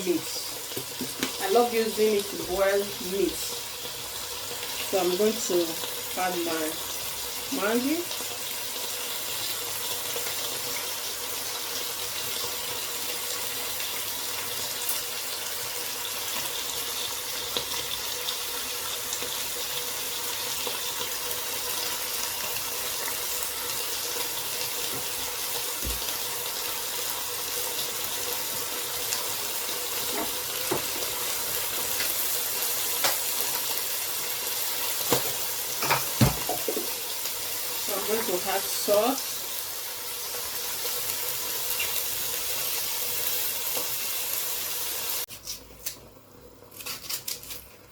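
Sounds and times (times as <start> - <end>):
pot boiling on stove: 0.0 - 46.8.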